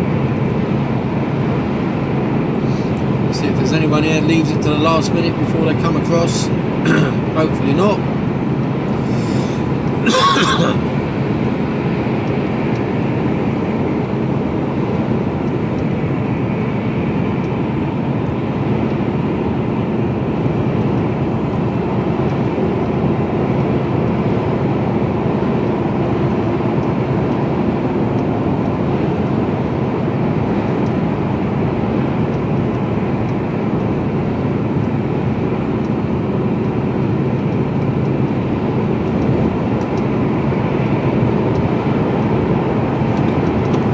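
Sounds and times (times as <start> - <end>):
truck engine and road drone: 0.0 - 43.9.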